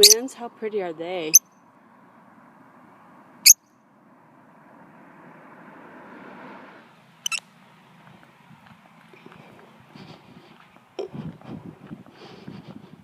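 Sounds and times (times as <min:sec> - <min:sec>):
vehicle passing: 0:01.2 - 0:12.9.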